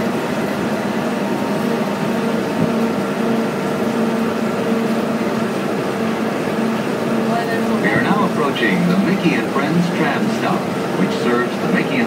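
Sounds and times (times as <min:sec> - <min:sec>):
tram drive drone: 0:00.0 - 0:12.0
road noise: 0:00.4 - 0:12.0.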